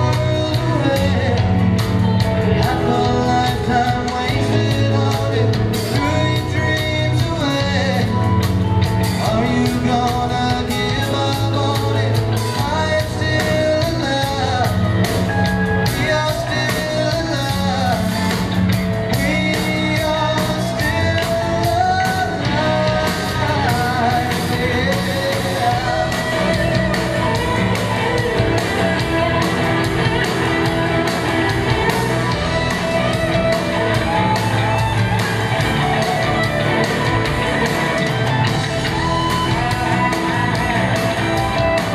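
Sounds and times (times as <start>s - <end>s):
drums: 0.0s - 41.9s
electric guitars: 0.0s - 41.9s.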